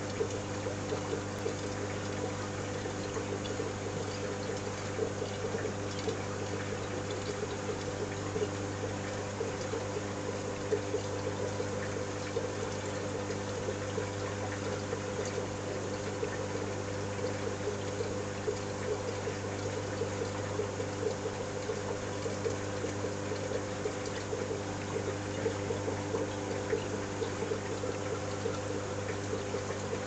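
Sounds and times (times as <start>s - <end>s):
pump hum: 0.0s - 30.0s
water trickling and splashing: 0.0s - 30.0s.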